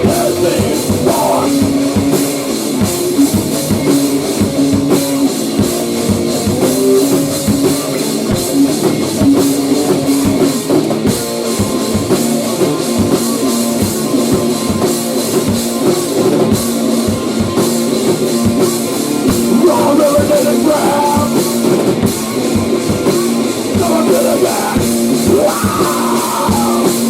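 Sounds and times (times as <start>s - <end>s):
drum kit hit hard: 0.0s - 27.0s
electric guitar riff: 0.0s - 27.0s.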